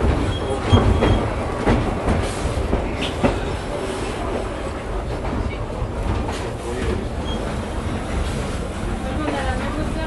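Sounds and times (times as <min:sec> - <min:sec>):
train carriage rumbling on rails: 0:00.0 - 0:10.0.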